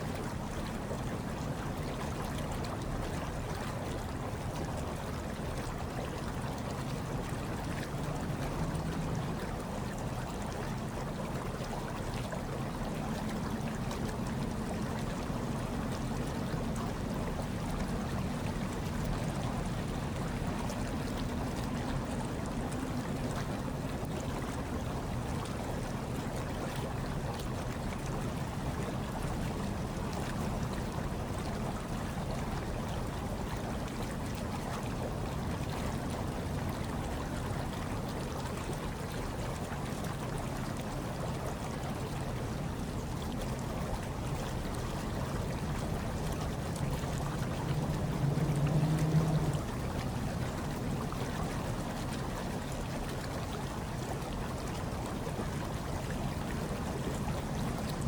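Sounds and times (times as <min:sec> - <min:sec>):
hot tub water bubbling: 0:00.0 - 0:58.0.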